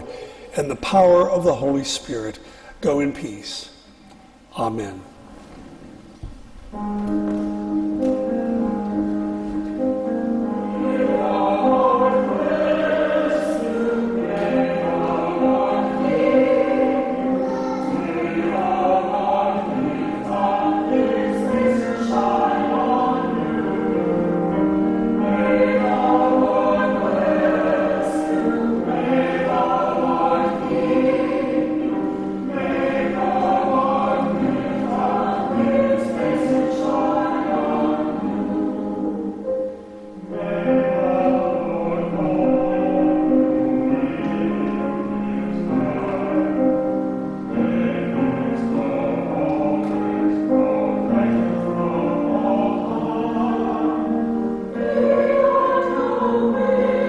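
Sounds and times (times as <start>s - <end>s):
vocal ensemble singing in harmony: 0.0s - 2.6s, 7.9s - 57.0s.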